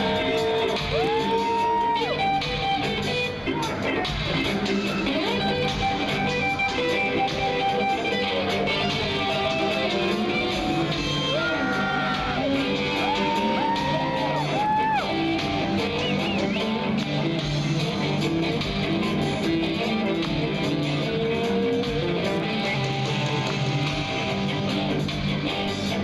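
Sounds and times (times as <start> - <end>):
electric guitar bending notes: 0.0 - 26.0
rock band playing live: 0.0 - 26.0.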